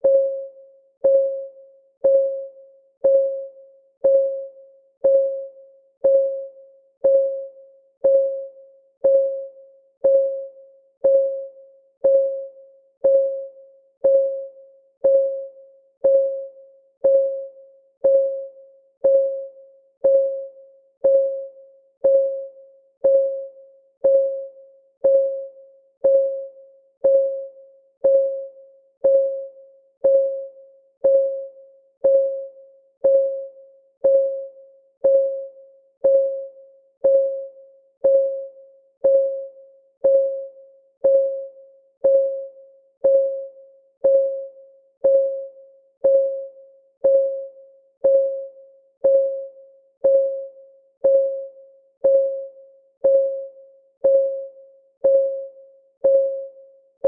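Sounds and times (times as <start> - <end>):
timer clock ticking: 1.0 - 56.6.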